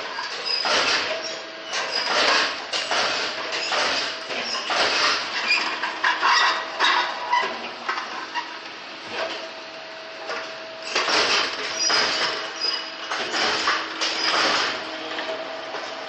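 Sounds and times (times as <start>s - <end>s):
machine hum: 0.0s - 16.0s
rattling machine working strokes: 0.0s - 16.0s.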